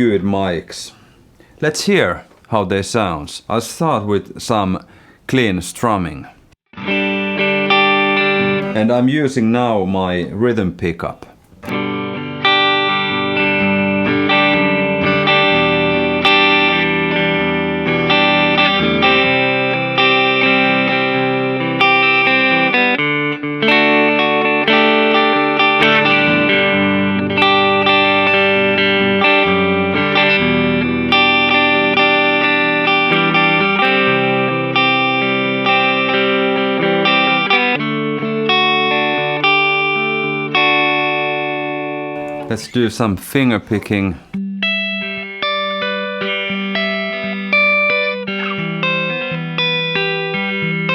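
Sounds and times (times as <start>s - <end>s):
electric guitar strumming chords: 6.7s - 9.3s, 11.4s - 50.9s.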